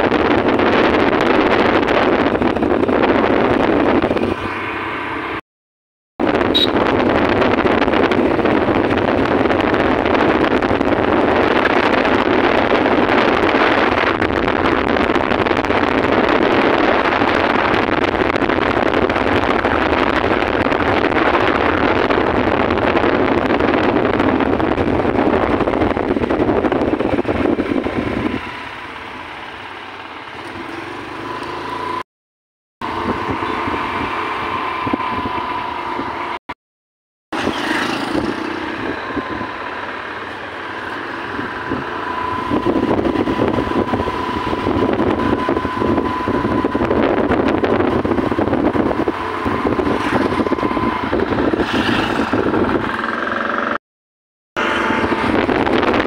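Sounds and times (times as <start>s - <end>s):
wind buffeting microphone: 0.0s - 4.6s, 6.2s - 29.1s, 32.8s - 36.4s, 37.4s - 53.8s, 54.6s - 56.0s
motorcycle running noise: 0.0s - 5.4s, 6.2s - 32.0s, 32.8s - 36.4s, 37.3s - 53.8s, 54.6s - 56.0s.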